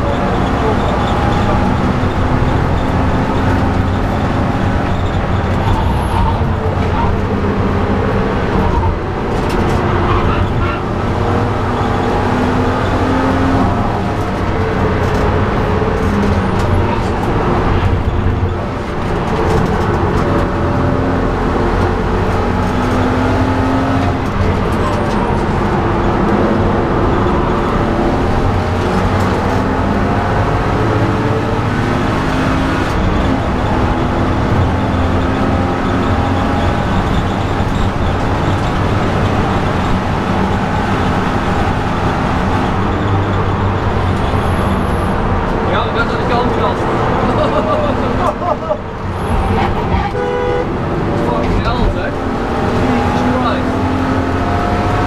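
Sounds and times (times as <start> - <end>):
car engine revving: 0.0 - 55.0
tyre and road noise: 0.0 - 55.0.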